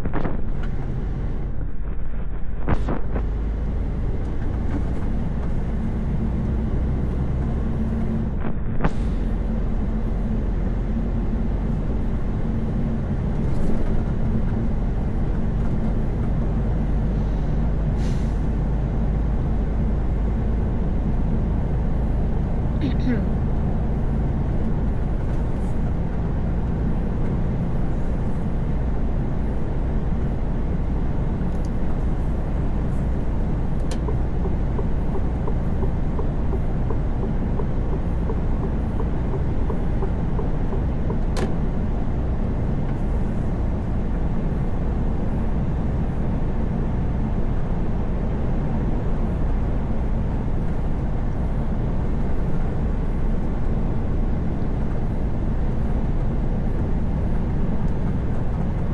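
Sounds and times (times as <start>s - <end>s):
road rumble: 0.0s - 58.9s
truck engine drone: 0.0s - 58.9s.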